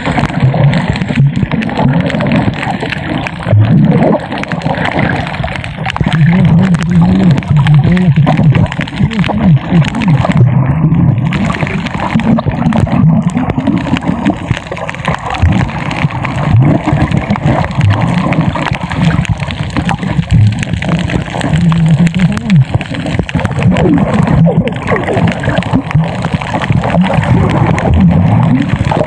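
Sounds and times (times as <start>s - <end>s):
underwater bubbling and gurgling: 0.0s - 29.0s.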